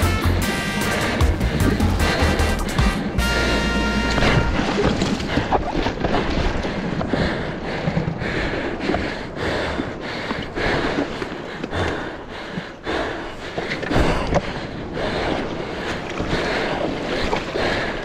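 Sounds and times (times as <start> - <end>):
water slapping against hull: 0.6 - 18.0.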